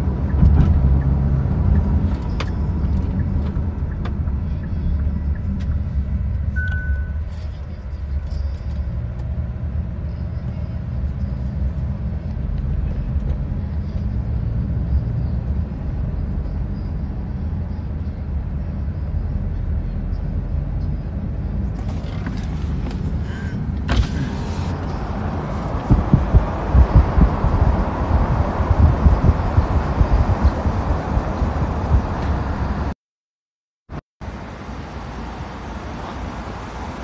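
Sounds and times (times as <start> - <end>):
car road and engine rumble: 0.0 - 33.0, 33.9 - 37.0.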